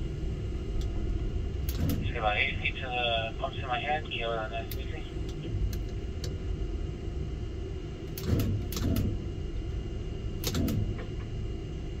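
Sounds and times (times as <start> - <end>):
tower crane rumble: 0.0 - 12.0.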